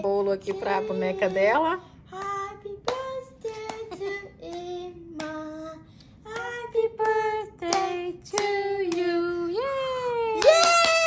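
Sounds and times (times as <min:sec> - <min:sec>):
girl singing: 0:00.0 - 0:10.5.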